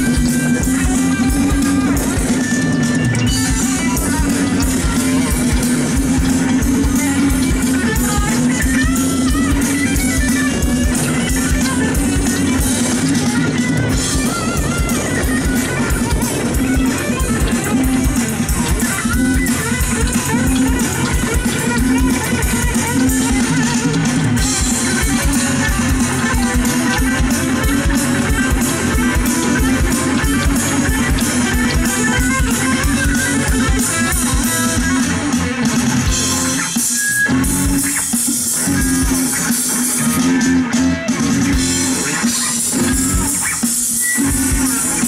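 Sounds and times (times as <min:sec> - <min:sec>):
bass guitar: 0:00.0 - 0:45.0
drum kit beat: 0:00.0 - 0:45.0
electric guitar: 0:00.0 - 0:45.0
funk band playing live: 0:00.0 - 0:45.0.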